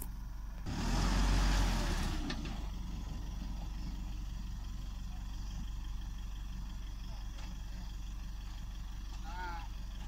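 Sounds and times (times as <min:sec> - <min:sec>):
pickup truck engine under load: 0:00.0 - 0:10.0.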